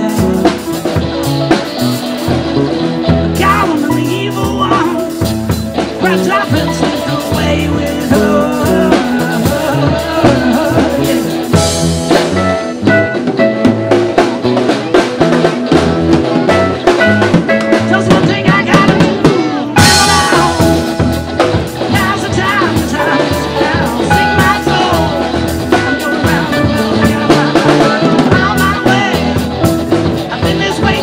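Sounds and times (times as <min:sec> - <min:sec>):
bass guitar: 0:00.0 - 0:31.0
drum kit steady beat: 0:00.0 - 0:31.0
electric guitars: 0:00.0 - 0:31.0.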